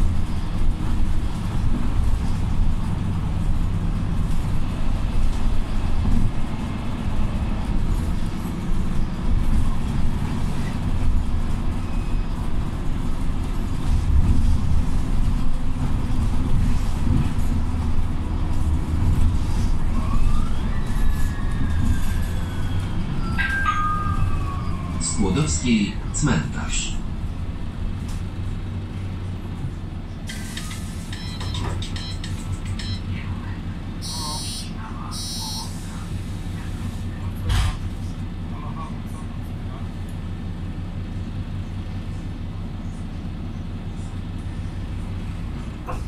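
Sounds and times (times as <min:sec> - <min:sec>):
bus engine rumble from inside: 0:00.0 - 0:46.0.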